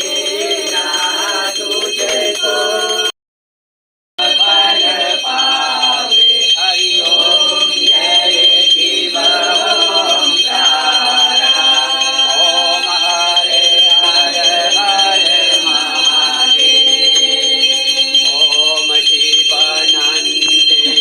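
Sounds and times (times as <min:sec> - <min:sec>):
steady high ringing: 0:00.0 - 0:03.1, 0:04.2 - 0:21.0
voices singing a hymn: 0:00.0 - 0:03.1, 0:04.2 - 0:21.0.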